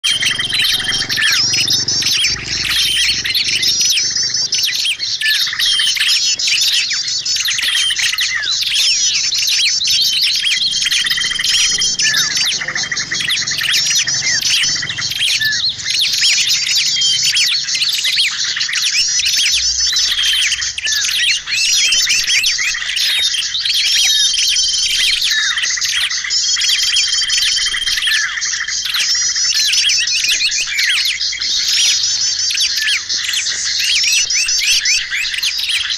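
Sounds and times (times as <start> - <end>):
small birds chirping and trilling: 0.0 - 35.9.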